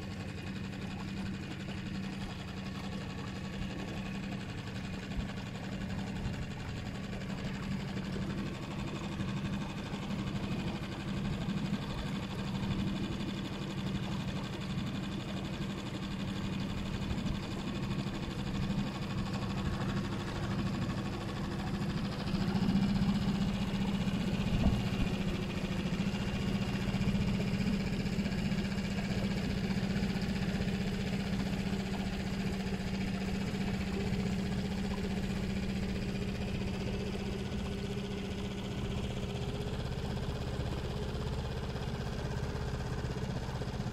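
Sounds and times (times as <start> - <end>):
outboard motor droning: 0.0 - 43.9.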